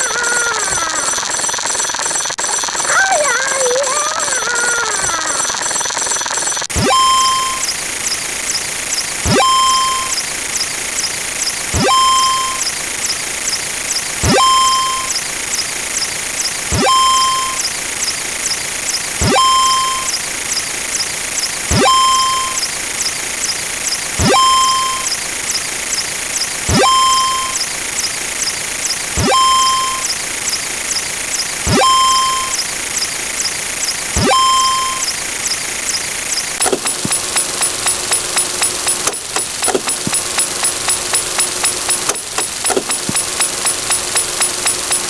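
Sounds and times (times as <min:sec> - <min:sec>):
rapid electronic clicks: 0:00.0 - 0:45.0
electronic rising sweep and beep: 0:06.7 - 0:45.0.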